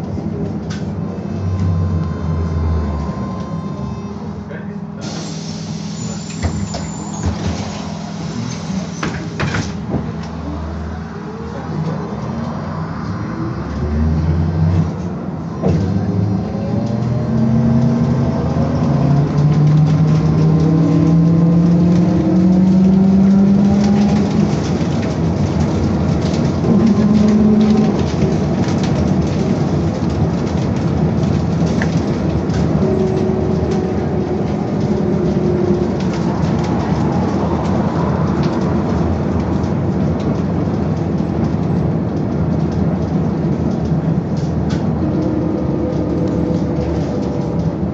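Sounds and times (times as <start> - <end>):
road and tyre rumble: 0.0 - 47.9.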